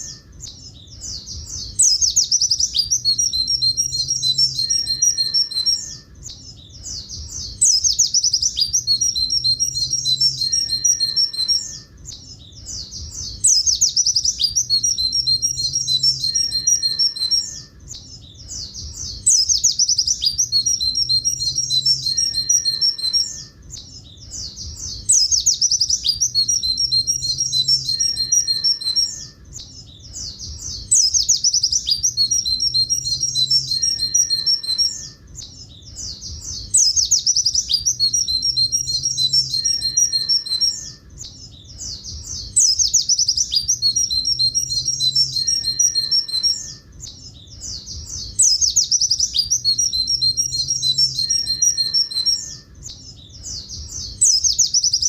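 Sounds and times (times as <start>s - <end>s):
bird singing high-pitched phrase: 0.0s - 55.0s.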